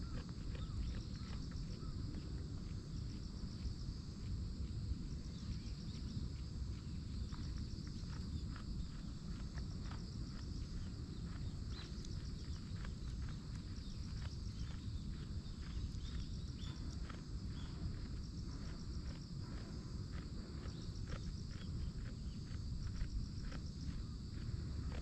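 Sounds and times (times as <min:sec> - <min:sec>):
goats chewing cud: 0:00.0 - 0:25.0
low steady rumble: 0:00.0 - 0:25.0.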